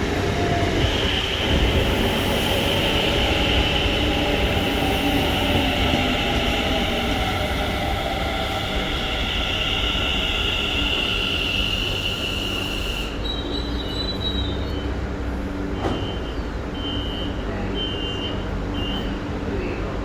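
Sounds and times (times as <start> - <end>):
train low rumble: 0.0 - 20.0
train wheels and brakes squealing: 0.2 - 19.4.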